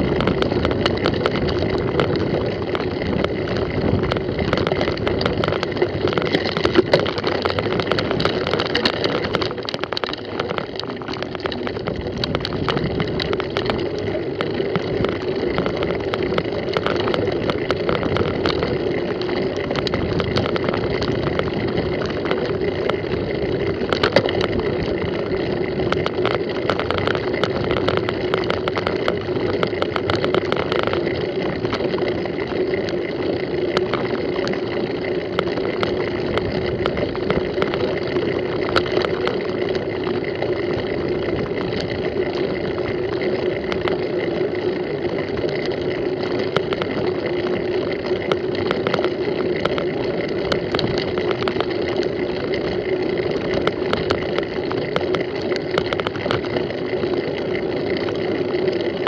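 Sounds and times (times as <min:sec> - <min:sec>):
bike clicks and rattles: 0:00.0 - 0:59.0
bike tyres rumbling on dirt: 0:00.0 - 0:59.0.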